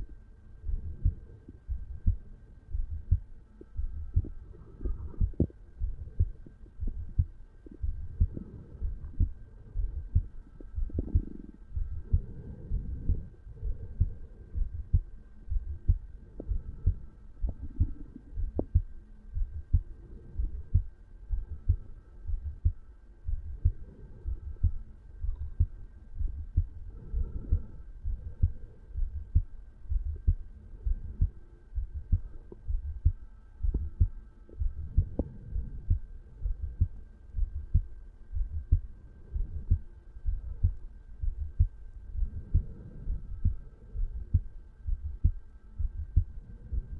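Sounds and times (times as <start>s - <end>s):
heartbeat thumps: 0.0s - 46.9s.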